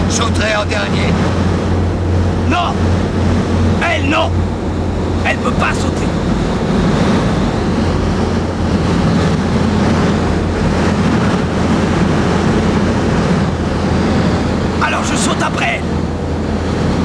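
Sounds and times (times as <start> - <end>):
aircraft engine drone in cabin: 0.0 - 17.0.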